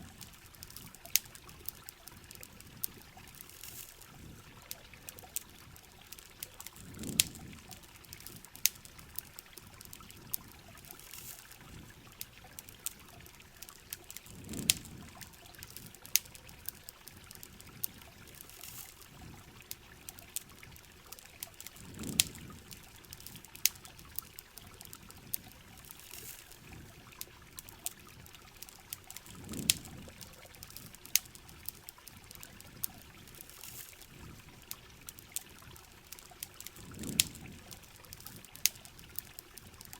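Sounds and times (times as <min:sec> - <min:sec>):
campfire crackling: 0:00.0 - 0:39.9
rain hissing: 0:00.0 - 0:39.9
trickling gush of water: 0:00.0 - 0:39.9.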